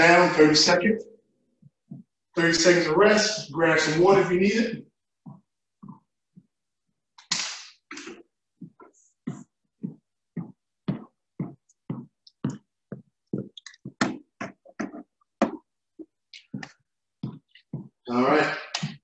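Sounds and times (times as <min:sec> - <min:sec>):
footsteps on wooden floor: 0:01.4 - 0:07.0, 0:08.0 - 0:19.0.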